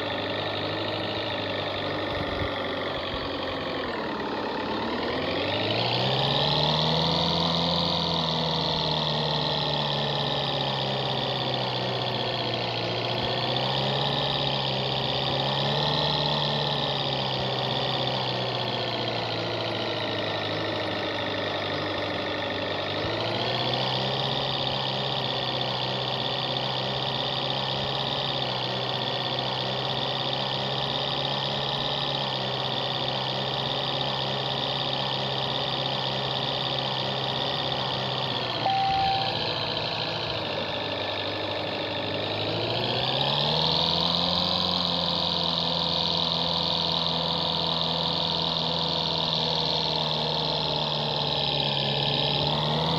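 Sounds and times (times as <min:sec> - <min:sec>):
jeep engine revving: 0:00.0 - 0:52.9.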